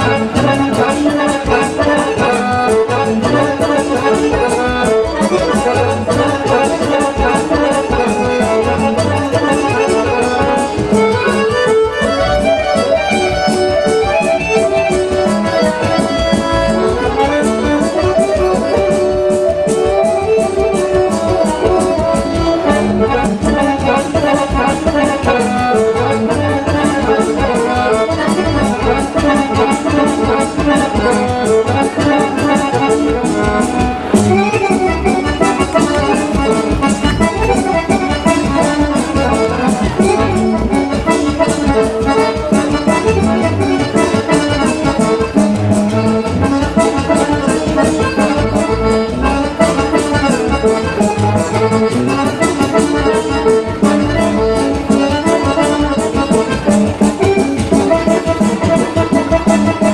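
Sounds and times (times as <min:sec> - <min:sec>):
accordion folk dance music: 0:00.0 - 0:59.9.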